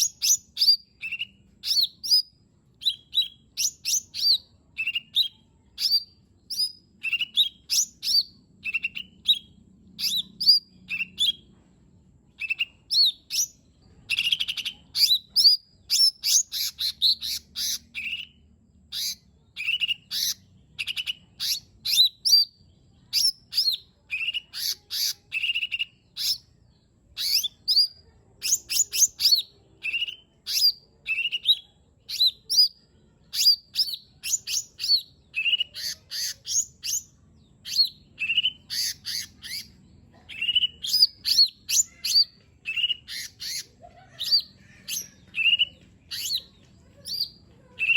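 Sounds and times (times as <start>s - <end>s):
bird singing high chirps: 0.0s - 11.6s, 12.3s - 47.9s.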